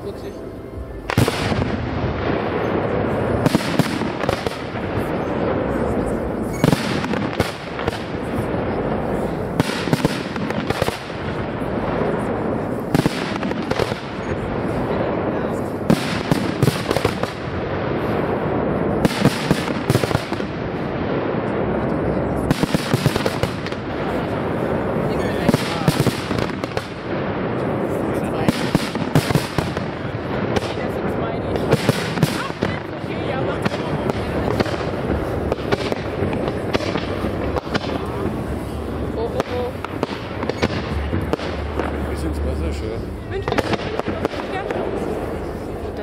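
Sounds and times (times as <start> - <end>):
fireworks bangs: 0.0 - 46.0
fireworks crackling rumble: 0.0 - 46.0.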